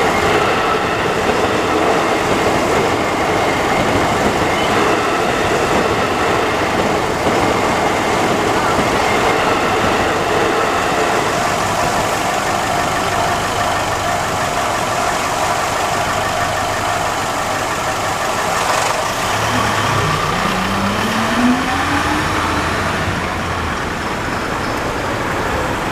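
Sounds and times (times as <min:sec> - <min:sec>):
vehicle engines idling: 0:00.0 - 0:25.9
vehicle pulling away: 0:00.0 - 0:25.9.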